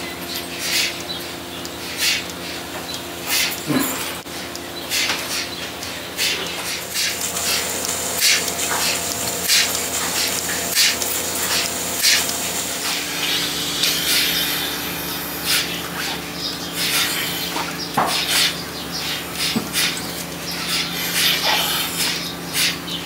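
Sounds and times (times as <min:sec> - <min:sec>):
hissing clicks of pulsators: 0:00.0 - 0:23.0
milking machine hum: 0:00.0 - 0:23.0.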